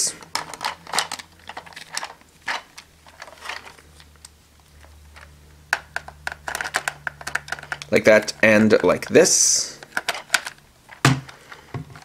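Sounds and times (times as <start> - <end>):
plastic clicks and rubbing: 0.2 - 8.0, 9.8 - 12.0.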